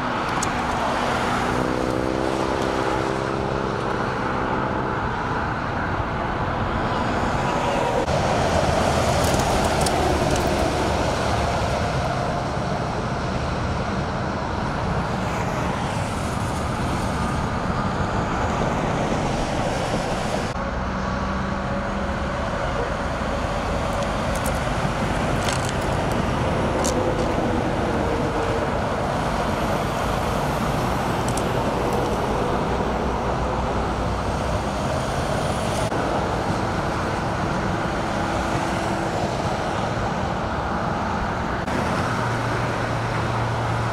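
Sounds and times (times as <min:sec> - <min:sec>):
freeway traffic rumble: 0:00.0 - 0:43.9.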